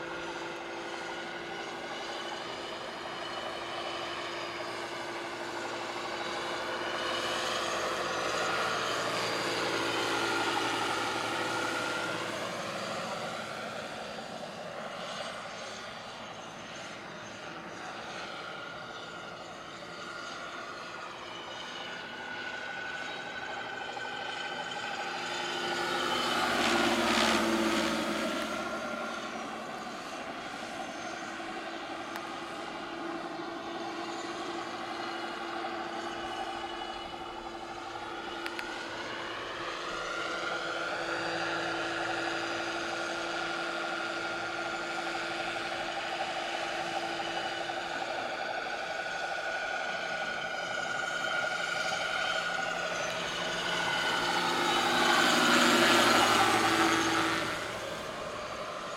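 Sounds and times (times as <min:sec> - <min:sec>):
model helicopter motor whine: 0:00.0 - 0:58.9.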